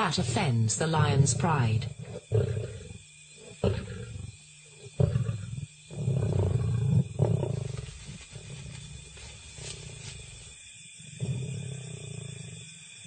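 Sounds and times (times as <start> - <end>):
lion growling: 0.0 - 12.8.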